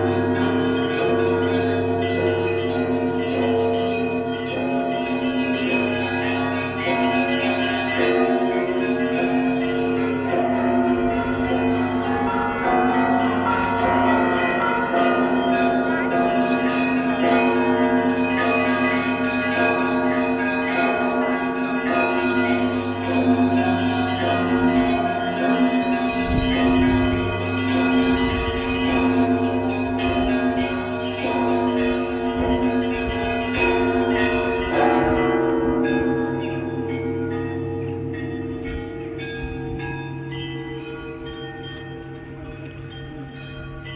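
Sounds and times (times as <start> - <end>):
deep tones of big bells: 0.0 - 43.9
smaller bells striking: 0.0 - 43.9.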